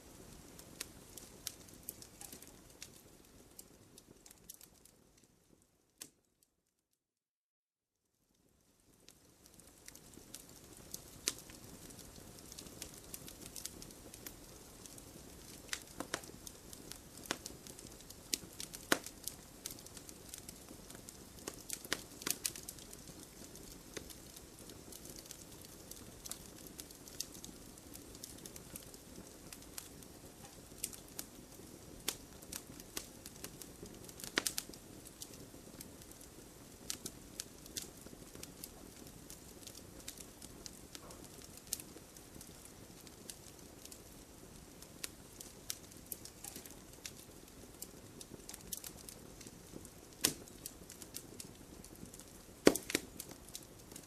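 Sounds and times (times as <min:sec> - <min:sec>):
wood fire crackling: 0:00.0 - 0:06.4, 0:08.2 - 0:54.0
low steady hiss: 0:00.0 - 0:06.8, 0:08.0 - 0:54.0.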